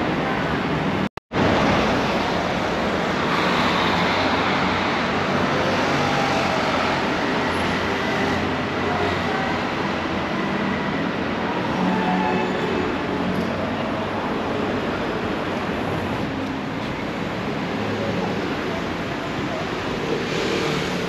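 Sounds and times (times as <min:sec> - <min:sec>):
passing road traffic: 0:00.0 - 0:21.0.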